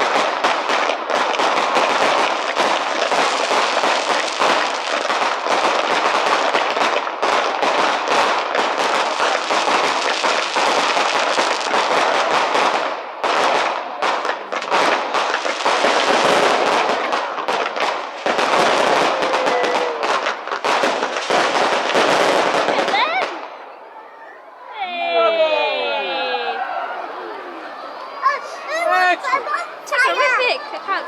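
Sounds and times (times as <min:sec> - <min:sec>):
fireworks crackling and popping: 0:00.0 - 0:23.6, 0:25.0 - 0:31.0.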